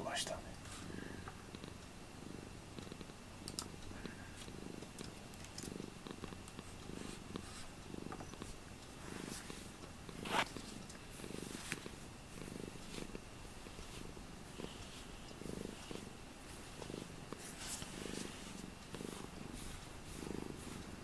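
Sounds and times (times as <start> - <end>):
cat purring: 0.2 - 21.0.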